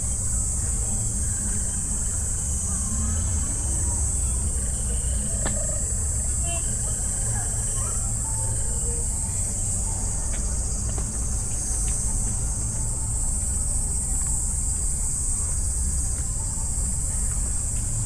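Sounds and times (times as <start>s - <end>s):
cicadas droning: 0.0s - 18.0s
low steady rumble: 0.0s - 18.0s.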